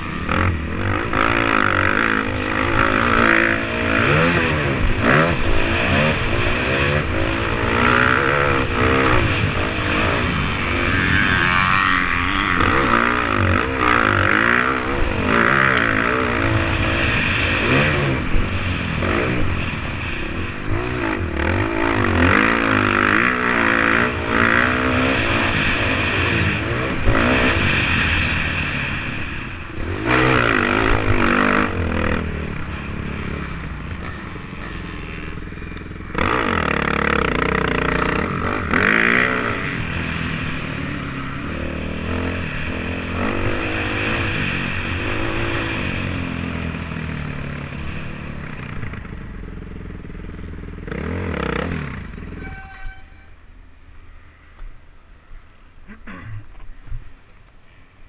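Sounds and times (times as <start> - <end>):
dirt bike engine revving: 0.0 - 53.4.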